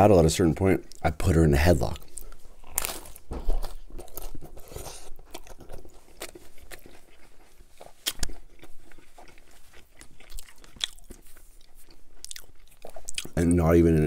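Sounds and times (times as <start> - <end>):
chewing with crisp crunches: 0.8 - 13.7
biting into crunchy taco: 2.0 - 13.4.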